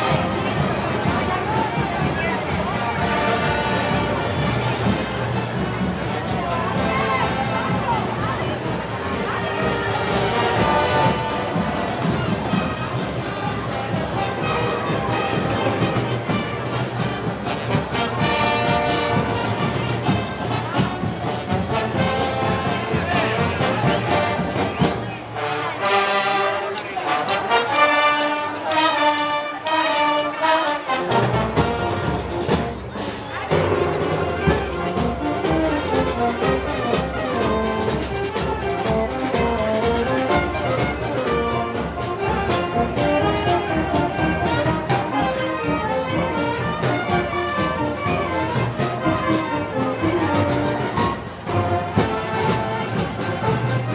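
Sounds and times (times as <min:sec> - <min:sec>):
percussion beat: 0:00.0 - 0:25.3, 0:31.0 - 0:53.9
brass band playing: 0:00.0 - 0:53.9.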